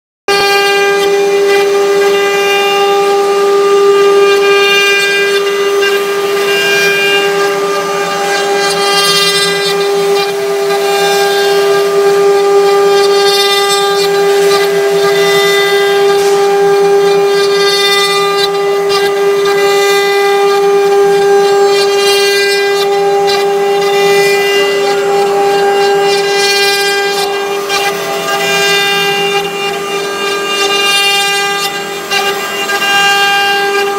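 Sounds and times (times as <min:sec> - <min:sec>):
router spindles whining: 0:00.3 - 0:33.9.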